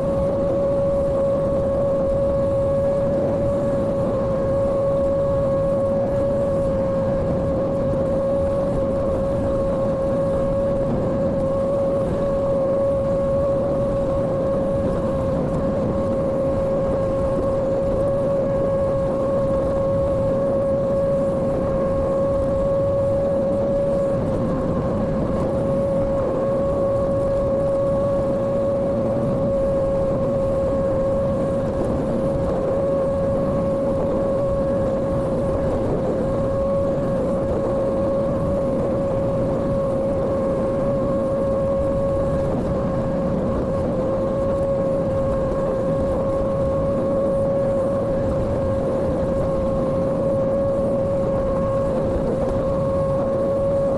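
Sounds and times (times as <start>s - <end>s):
construction machine engine whining: 0.0s - 53.9s.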